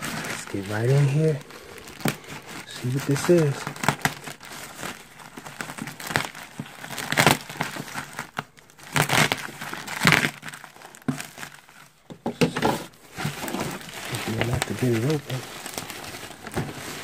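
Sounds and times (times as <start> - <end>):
plastic mailer bag crinkling: 0.0 - 17.0.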